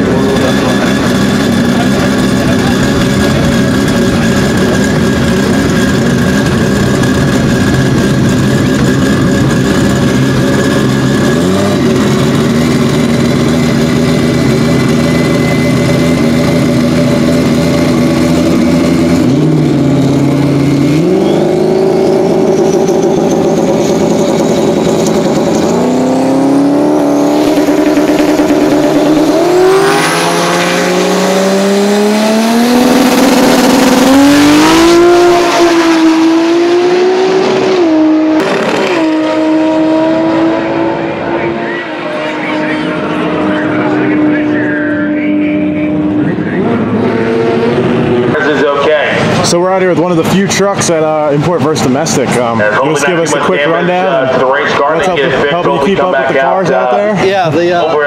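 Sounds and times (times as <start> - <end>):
truck engine idling and revving: 0.0 - 58.0.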